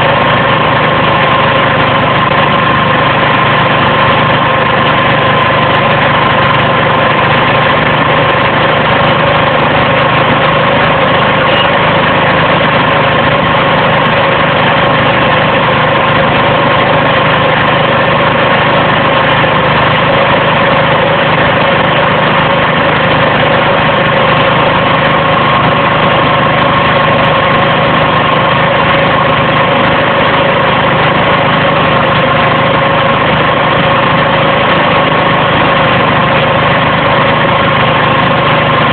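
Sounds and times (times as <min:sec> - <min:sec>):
fan engine drone: 0:00.0 - 0:38.9.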